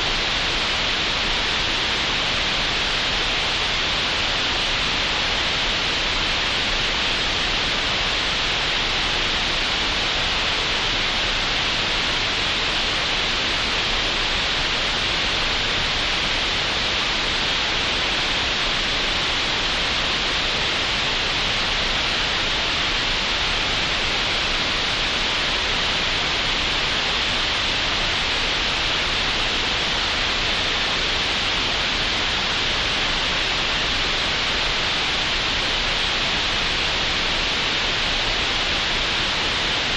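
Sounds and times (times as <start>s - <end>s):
steady synthetic hiss: 0.0s - 39.9s.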